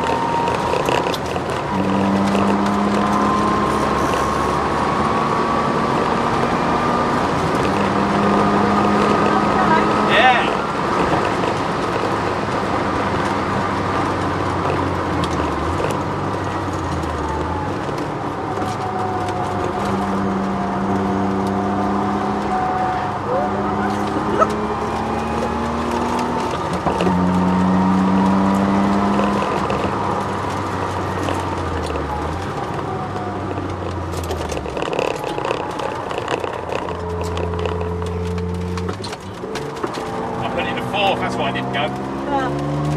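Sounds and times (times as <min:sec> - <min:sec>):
car engine at speed from inside: 0:00.0 - 0:42.9
drivetrain whine: 0:00.0 - 0:42.9.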